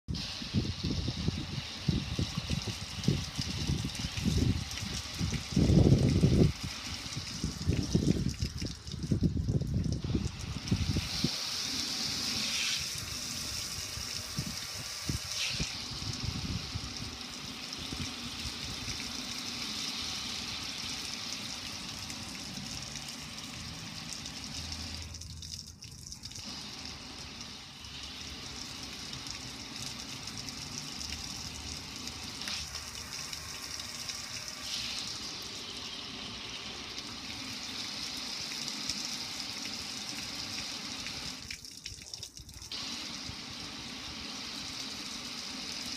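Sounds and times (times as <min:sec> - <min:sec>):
water splashing onto concrete: 0:00.1 - 0:45.9.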